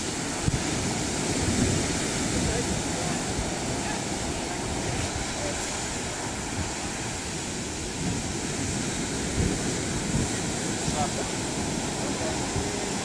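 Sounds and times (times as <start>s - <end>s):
surf pounding on rock: 0.0s - 13.0s.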